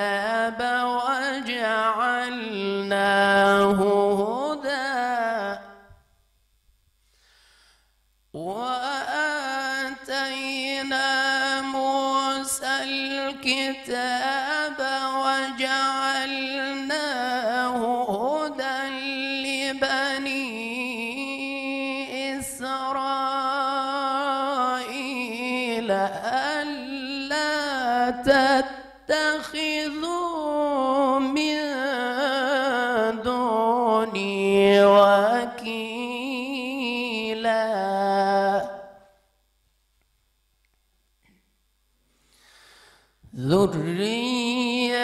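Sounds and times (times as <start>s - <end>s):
man reciting melodically: 0.0s - 5.9s, 8.4s - 39.1s, 43.2s - 45.0s.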